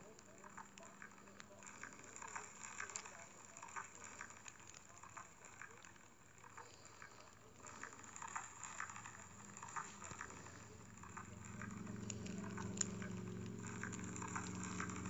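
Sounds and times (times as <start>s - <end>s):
crackling and ticking: 0.0s - 15.0s.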